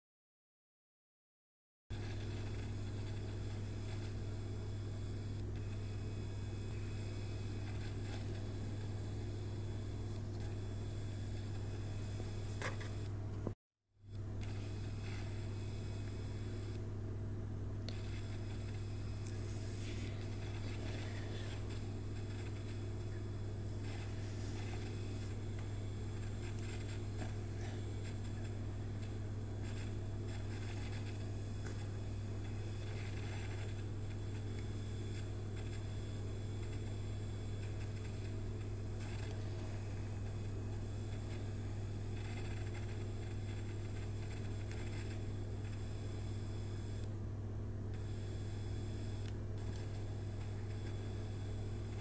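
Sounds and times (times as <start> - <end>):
steady low hum: 1.9 - 52.0.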